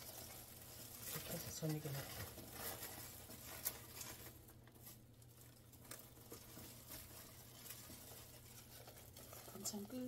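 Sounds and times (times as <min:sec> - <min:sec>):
crinkling of crisp seaweed sheets: 0:00.0 - 0:10.0.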